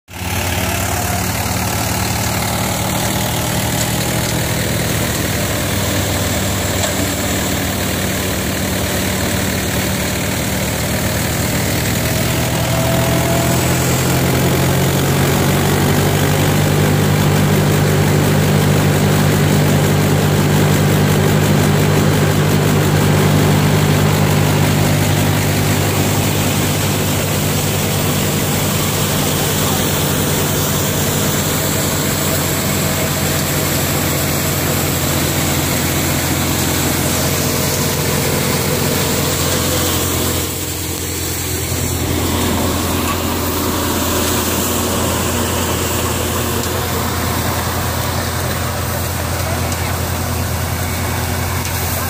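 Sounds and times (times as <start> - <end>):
tractor diesel engine running: 0.1 - 52.0
thresher rushing and whirring: 0.2 - 52.0.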